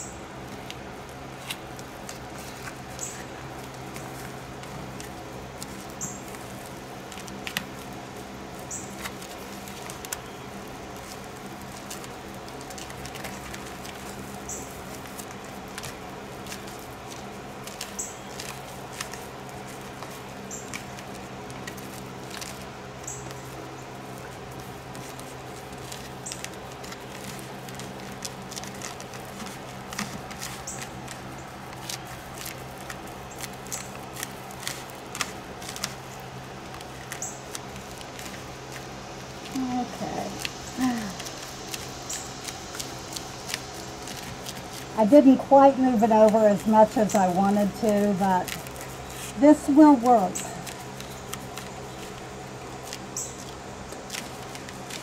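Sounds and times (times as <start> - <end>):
foil-faced foam insulation crinkling: 0.0 - 55.0
steady low hum: 0.0 - 55.0.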